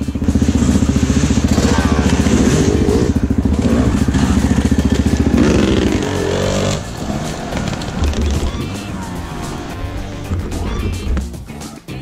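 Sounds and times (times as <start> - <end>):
dirt bikes passing by: 0.0 - 11.2
dirt bike engine idling: 0.0 - 12.0.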